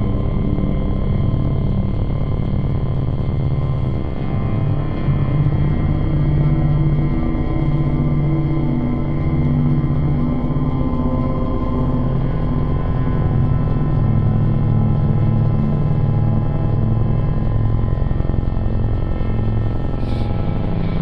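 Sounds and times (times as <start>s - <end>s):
electronic drone music: 2.9s - 21.0s.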